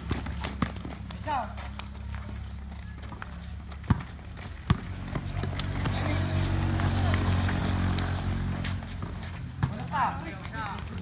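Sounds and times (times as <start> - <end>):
basketball bouncing on concrete: 0.0 - 11.0
low engine hum: 0.0 - 11.0.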